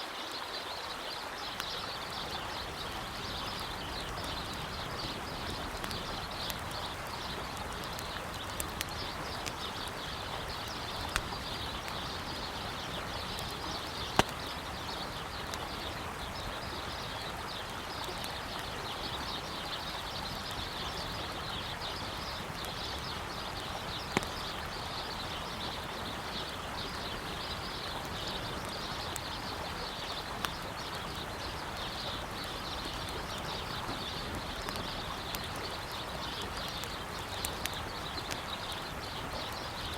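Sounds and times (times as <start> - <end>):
flowing river: 0.0 - 39.9
campfire wood crackling: 0.8 - 39.9.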